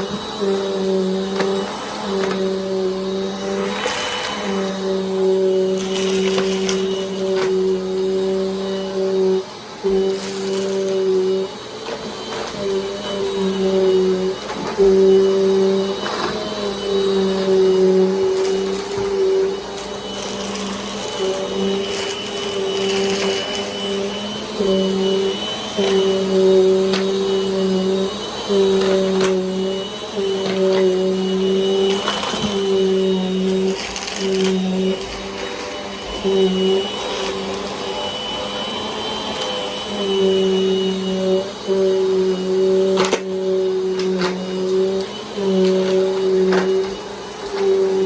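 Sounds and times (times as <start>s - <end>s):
vacuum cleaner running: 0.0s - 48.0s.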